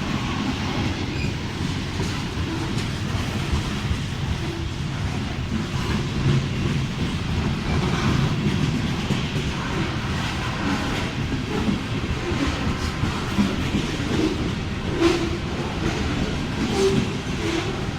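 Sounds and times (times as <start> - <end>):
low rumble of train wheels: 0.0 - 17.9.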